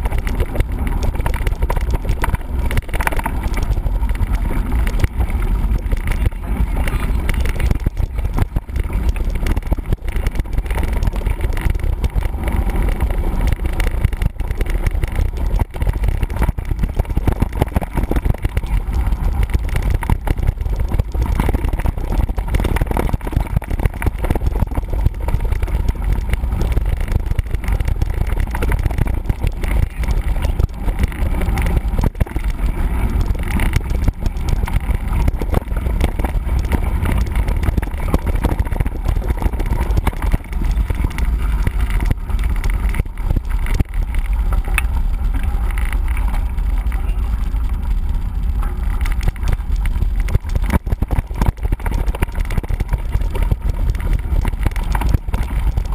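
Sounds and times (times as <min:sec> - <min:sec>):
bike rattling over rough ground: 0:00.0 - 0:55.9
wind buffeting microphone: 0:00.0 - 0:55.9.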